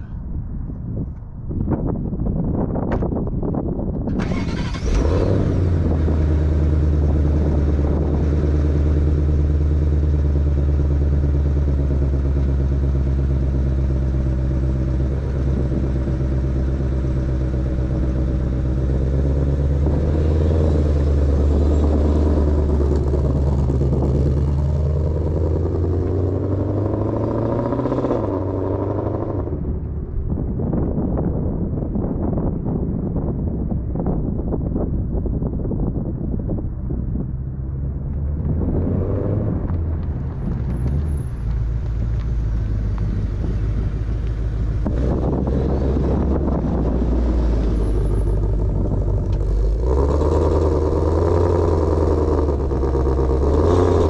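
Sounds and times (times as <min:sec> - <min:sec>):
car engine starting and idling: 0:03.9 - 0:31.1, 0:36.5 - 0:54.0
car driving off: 0:04.0 - 0:31.9, 0:35.8 - 0:54.0.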